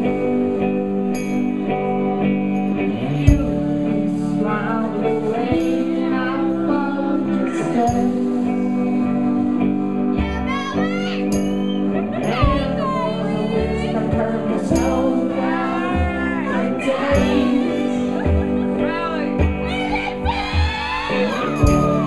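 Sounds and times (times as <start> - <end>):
guitars playing chords: 0.0 - 22.0
person singing: 0.0 - 22.0.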